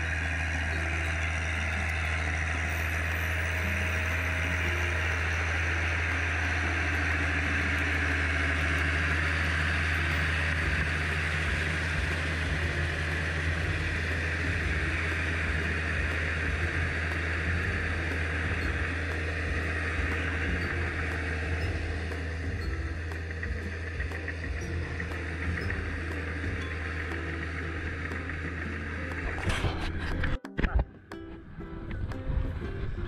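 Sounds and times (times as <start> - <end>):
tractor engine droning: 0.0 - 30.3.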